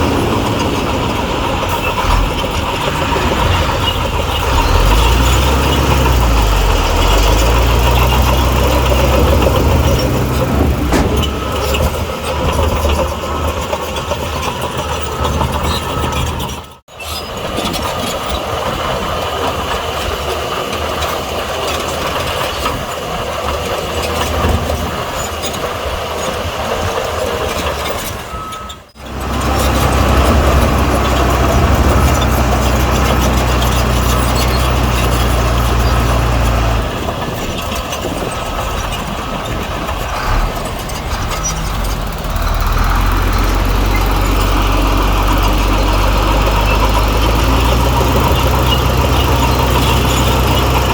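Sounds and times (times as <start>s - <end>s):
heavy diesel machinery engines: 0.0s - 50.9s.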